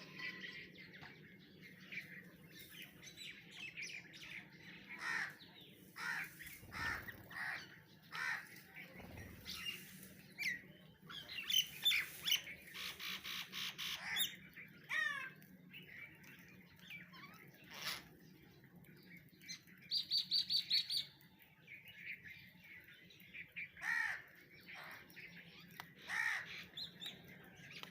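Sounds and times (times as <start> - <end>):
birds chirping and calling: 0.0 - 27.9.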